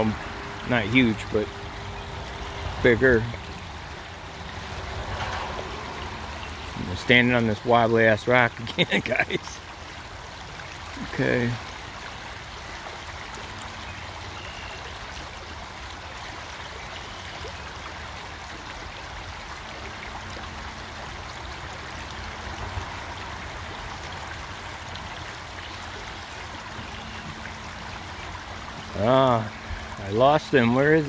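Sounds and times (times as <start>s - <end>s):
creek water over rocks: 0.0s - 31.0s.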